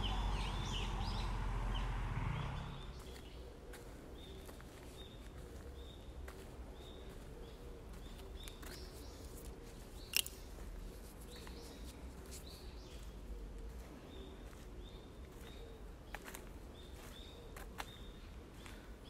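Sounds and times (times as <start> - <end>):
footsteps on dirt trail: 3.0 - 19.0.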